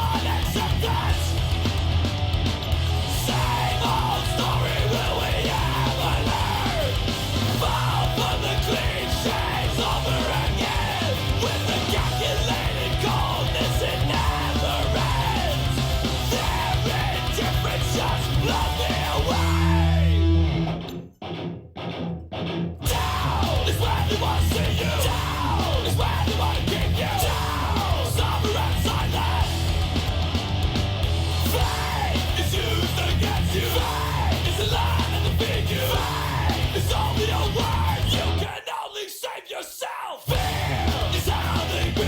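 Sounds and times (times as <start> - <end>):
heavy metal music with yelled vocals: 0.0 - 42.0.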